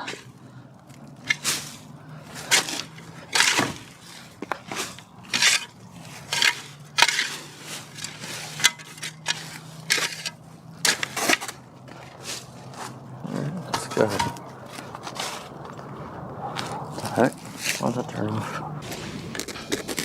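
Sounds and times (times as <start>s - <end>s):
crunching and scraping strikes: 0.0s - 15.9s, 16.5s - 20.0s.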